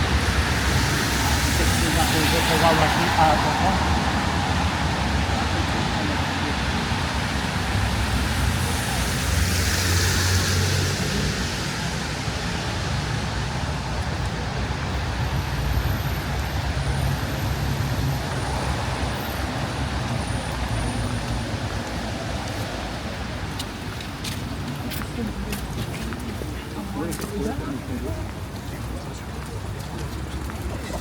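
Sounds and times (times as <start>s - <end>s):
steady traffic noise: 0.0s - 31.0s
vehicles passing on wet road: 0.0s - 31.0s.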